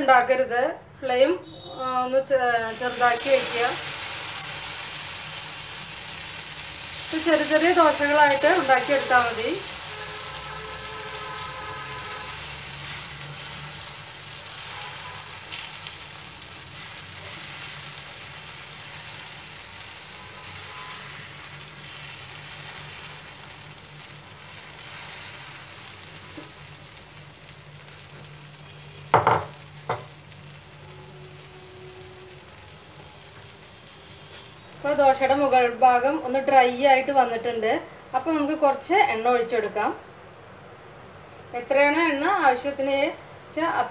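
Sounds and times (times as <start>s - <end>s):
batter sizzling on griddle: 2.6s - 43.9s.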